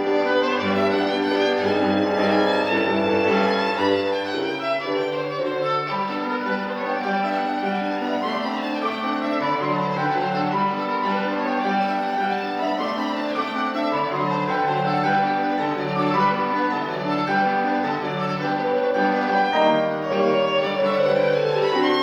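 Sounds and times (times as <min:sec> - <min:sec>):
piano accompaniment: 0:00.0 - 0:22.0
solo violin melody: 0:00.0 - 0:22.0.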